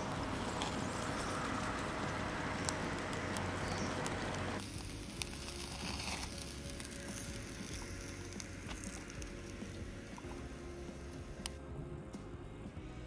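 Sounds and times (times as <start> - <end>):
charcoal fire crackling: 0.0 - 11.6
sausages sizzling on grill: 0.0 - 11.6.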